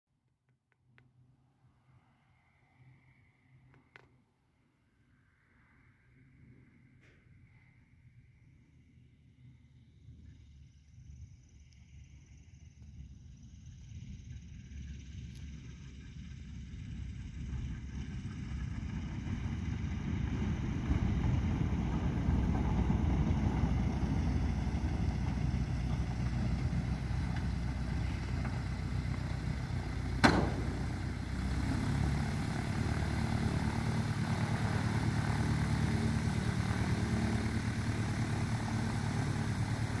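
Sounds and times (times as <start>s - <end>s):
light aircraft piston engine: 1.5s - 40.0s.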